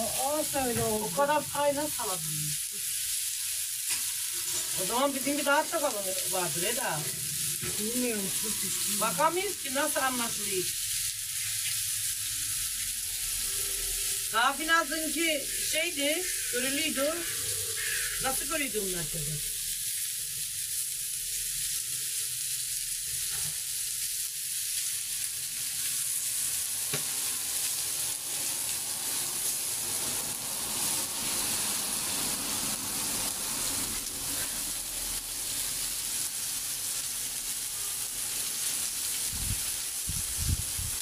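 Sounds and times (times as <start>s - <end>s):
meat sizzling on iron griddle: 0.0s - 41.0s.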